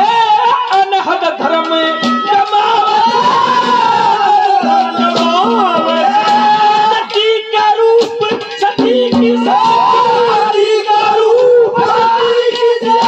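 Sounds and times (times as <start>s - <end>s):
man singing long high note: 0.0s - 13.0s.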